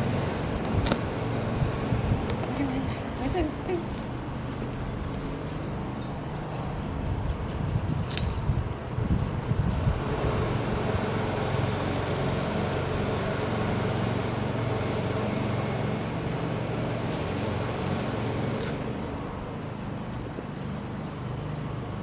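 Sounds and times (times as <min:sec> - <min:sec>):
engine hum: 0:00.0 - 0:22.0
road traffic rumble: 0:00.0 - 0:22.0.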